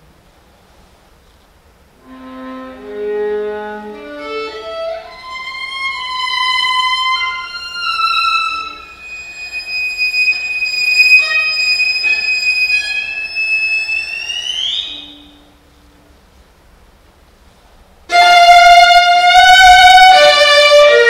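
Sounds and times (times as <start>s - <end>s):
solo viola high sustained notes: 2.0s - 16.1s, 18.1s - 21.0s.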